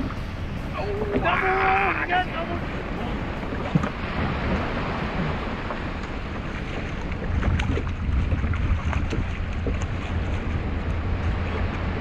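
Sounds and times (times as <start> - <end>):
water sloshing against hull: 0.0 - 12.0
wind buffeting microphone: 0.0 - 12.0.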